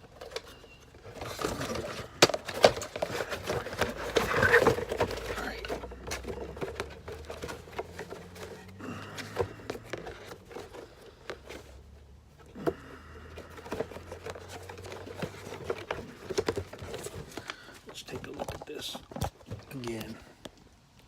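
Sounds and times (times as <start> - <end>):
cardboard and paper rustling: 0.0 - 21.0.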